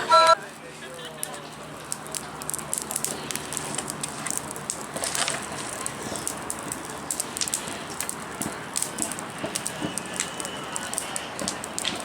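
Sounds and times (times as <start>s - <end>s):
bonfire crackling and popping: 0.4s - 12.0s.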